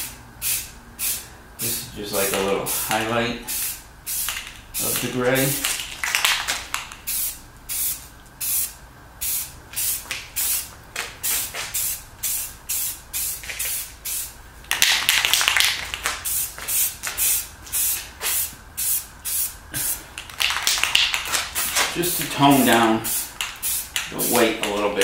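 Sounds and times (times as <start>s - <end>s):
aerosol can spraying: 2.7s - 24.8s.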